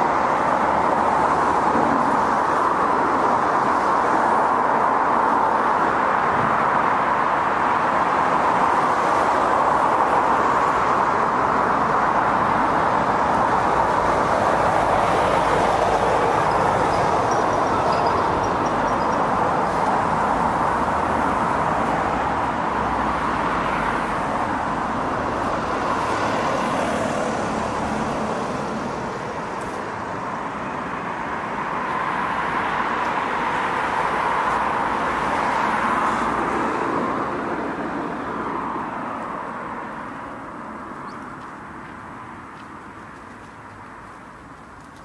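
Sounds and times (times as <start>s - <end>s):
road traffic noise: 0.0s - 45.0s.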